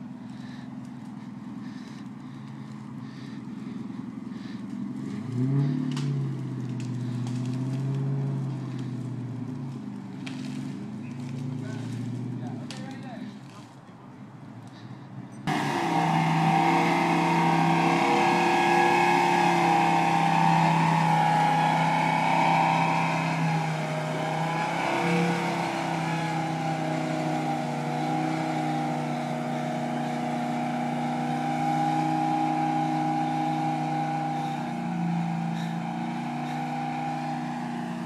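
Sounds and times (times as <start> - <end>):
truck engine running under load: 0.0 - 38.0.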